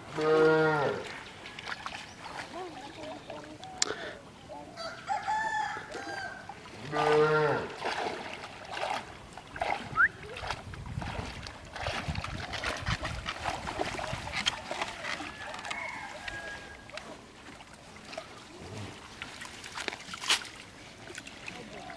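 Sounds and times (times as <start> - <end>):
water splashing and sloshing: 0.0 - 21.9.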